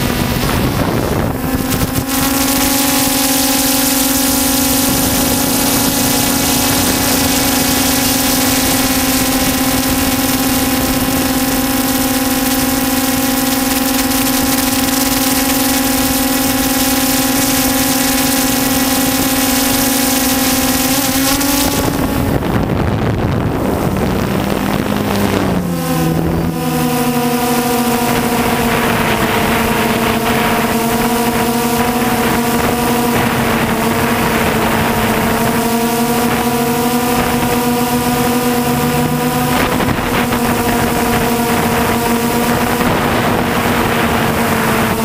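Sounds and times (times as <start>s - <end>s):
drone propellers whining: 0.0s - 45.0s
wind on microphone: 0.0s - 45.0s.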